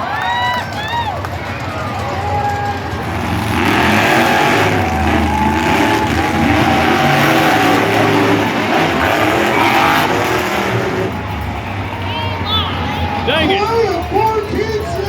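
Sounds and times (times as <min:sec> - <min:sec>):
monster truck engines racing: 0:00.0 - 0:15.0.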